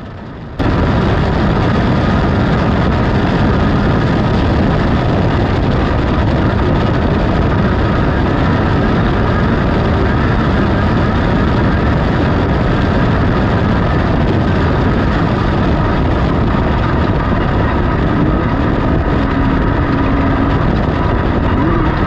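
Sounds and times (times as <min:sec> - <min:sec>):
race car engine: 0:00.0 - 0:22.0
rough road noise: 0:00.0 - 0:22.0.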